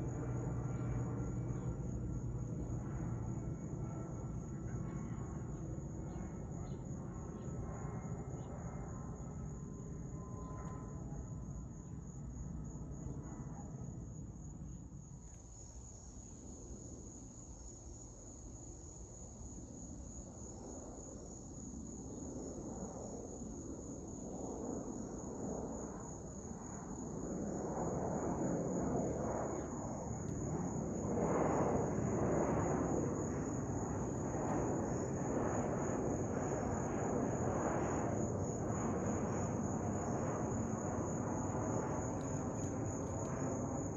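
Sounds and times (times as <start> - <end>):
insects chirring: 0.0 - 43.9
jet airliner passing overhead: 0.0 - 43.9.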